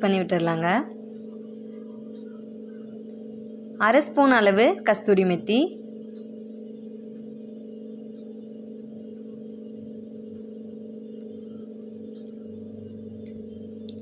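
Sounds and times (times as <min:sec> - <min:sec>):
droning music tone: 0:00.0 - 0:14.0.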